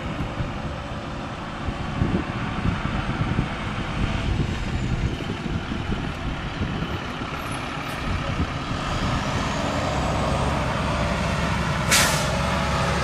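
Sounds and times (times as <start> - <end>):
approaching passenger train: 0.0 - 13.0
wind buffeting microphone: 0.0 - 13.0.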